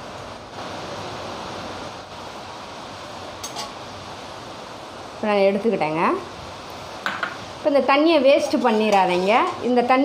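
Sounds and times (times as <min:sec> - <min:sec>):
steady rushing hiss: 0:00.0 - 0:10.0.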